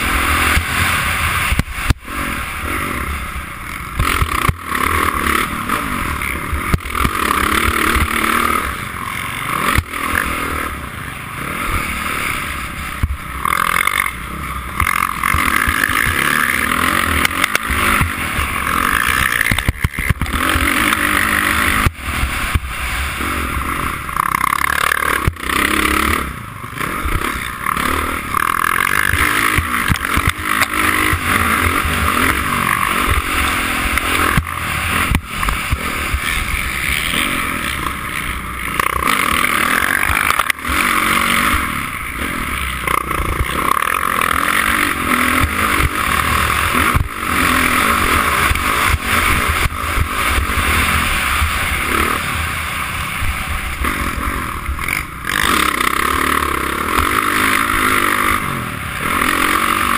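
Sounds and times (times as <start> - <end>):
dirt bike engine revving: 0.0 - 59.9
rushing wind: 0.0 - 59.9.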